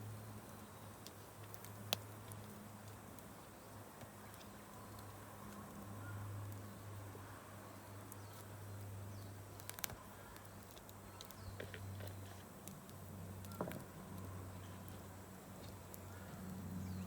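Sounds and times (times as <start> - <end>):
campfire crackling and popping: 0.2 - 7.1, 7.7 - 17.0.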